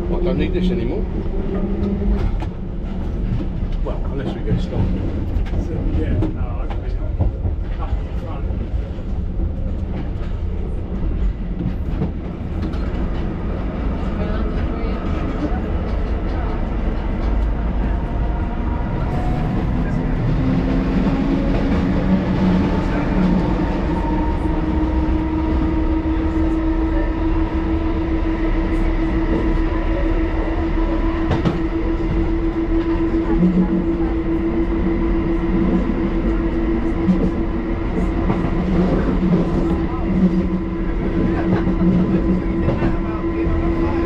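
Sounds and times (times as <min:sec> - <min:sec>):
train wheels rumbling: 0:00.0 - 0:44.0.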